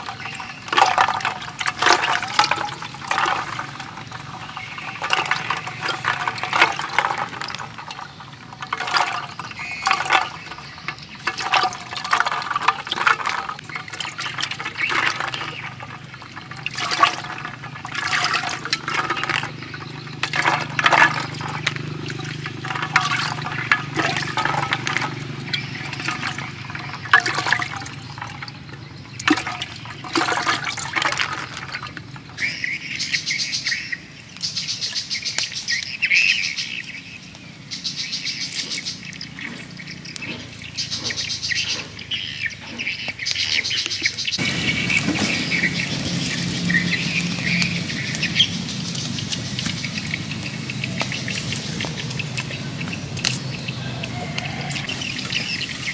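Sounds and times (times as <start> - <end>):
birds chirping and trilling: 0.0 - 55.9
water splashing and sloshing: 0.0 - 55.9.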